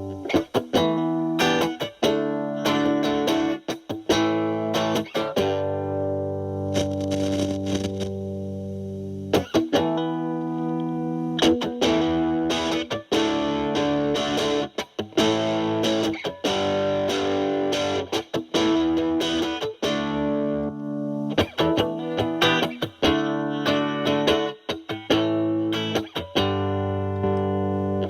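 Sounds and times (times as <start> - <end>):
distorted electric guitar chords: 0.0 - 28.0.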